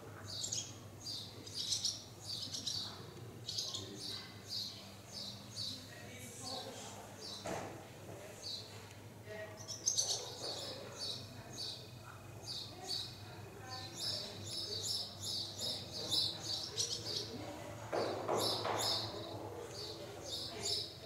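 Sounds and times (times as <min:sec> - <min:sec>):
small birds chirping: 0:00.0 - 0:07.6, 0:08.2 - 0:21.0.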